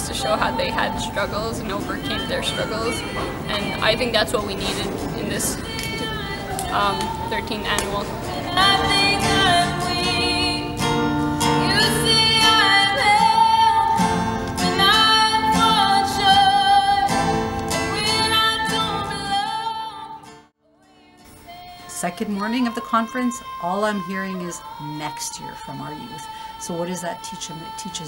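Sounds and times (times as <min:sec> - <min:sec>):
acoustic guitar strumming: 0:00.0 - 0:28.0
woman singing: 0:00.0 - 0:28.0.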